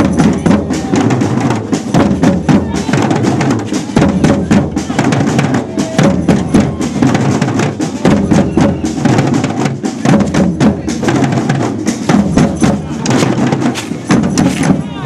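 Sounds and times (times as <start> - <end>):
crowd voices: 0.0 - 15.0
procession drums: 0.0 - 15.0.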